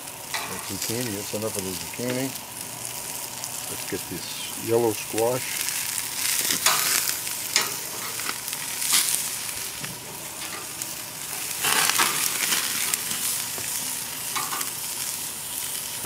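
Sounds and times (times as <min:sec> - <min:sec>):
vegetables sizzling on a grill: 0:00.0 - 0:16.0
metal tongs scraping grill: 0:00.2 - 0:02.3, 0:04.8 - 0:16.0.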